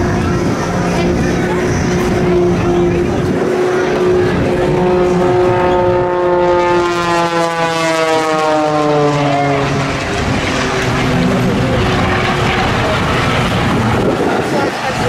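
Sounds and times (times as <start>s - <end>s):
gusty wind: 0.0s - 15.0s
propeller plane passing by: 0.0s - 15.0s.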